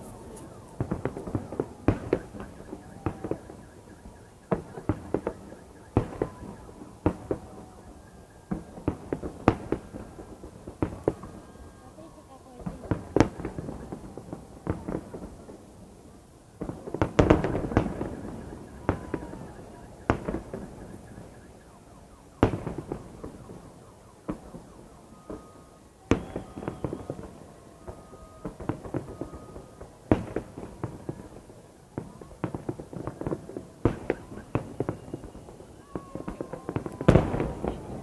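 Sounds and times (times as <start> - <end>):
fireworks pops and crackle: 0.0 - 11.6, 12.5 - 15.9, 16.6 - 21.6, 22.4 - 38.0
fireworks bursting with sharp bangs: 0.0 - 38.0.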